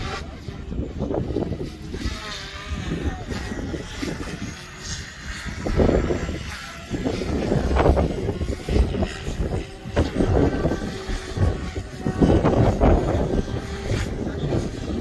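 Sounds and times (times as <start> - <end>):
electric rc helicopter flying: 0.0 - 15.0
wind buffeting microphone: 0.0 - 15.0.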